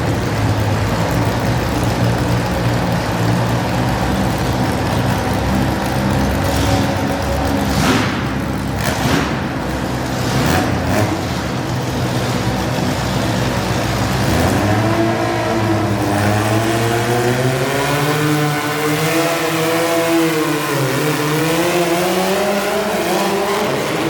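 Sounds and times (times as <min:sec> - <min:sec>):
tractor engine revving: 0:00.0 - 0:24.0.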